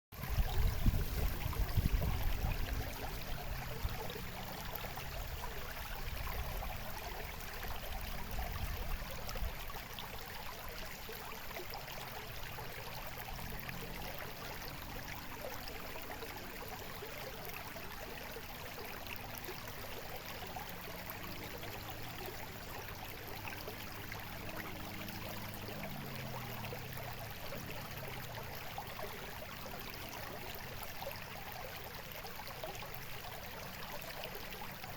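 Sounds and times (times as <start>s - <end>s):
stream babbling and gurgling: 0.1s - 34.9s.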